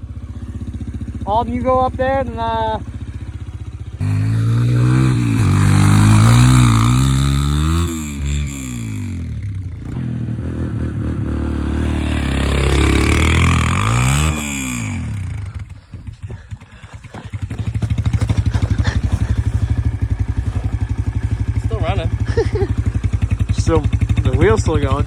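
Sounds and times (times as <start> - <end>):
dirt bike engine idling: 0.0 - 25.0
dirt bike engine revving: 0.1 - 25.0.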